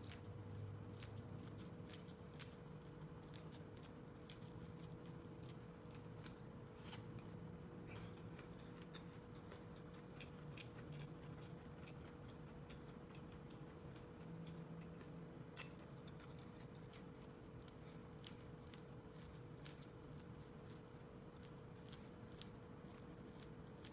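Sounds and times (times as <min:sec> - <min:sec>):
chewing corn on the cob: 0:00.0 - 0:23.9
steady low hum: 0:00.0 - 0:23.9.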